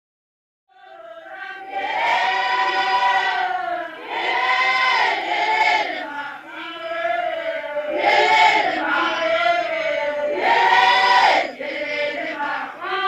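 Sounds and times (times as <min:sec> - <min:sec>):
choir singing sustained notes: 0:00.7 - 0:13.0.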